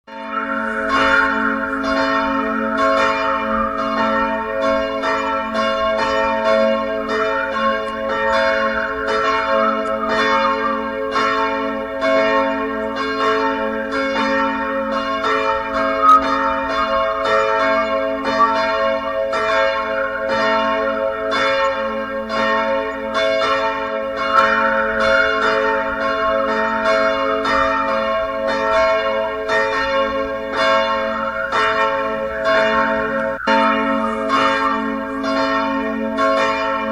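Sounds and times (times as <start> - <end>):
church bells pealing: 0.0 - 36.9.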